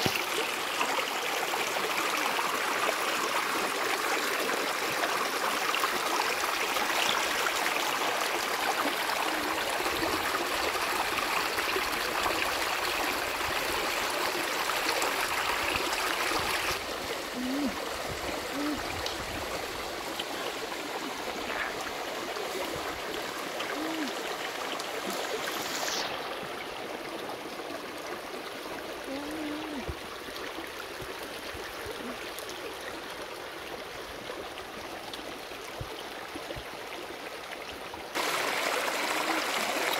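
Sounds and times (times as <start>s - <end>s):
stream water rushing over rock: 0.0s - 39.9s.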